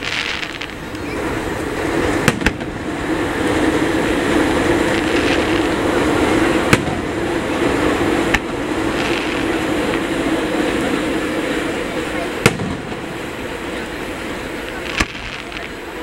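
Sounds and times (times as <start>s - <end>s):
firework shells bursting: 0.0s - 16.0s
steady rumbling noise: 0.0s - 16.0s.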